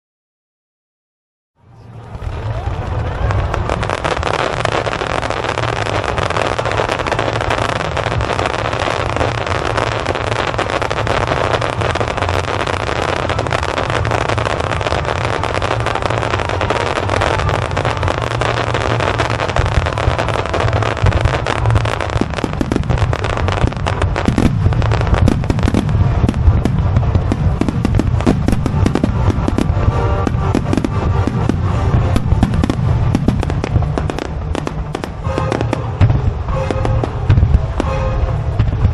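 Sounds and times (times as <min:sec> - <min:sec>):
fireworks bursting and crackling: 0:01.7 - 0:38.9.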